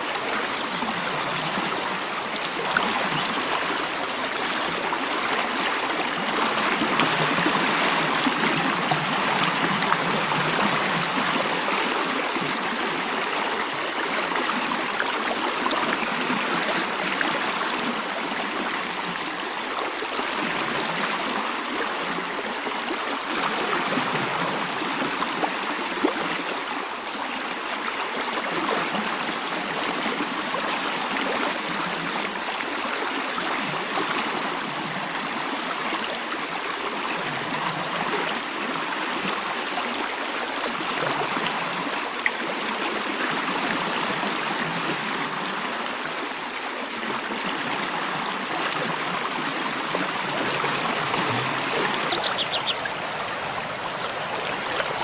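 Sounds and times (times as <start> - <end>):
mountain stream flowing: 0.0 - 55.0
water splashes: 0.0 - 55.0.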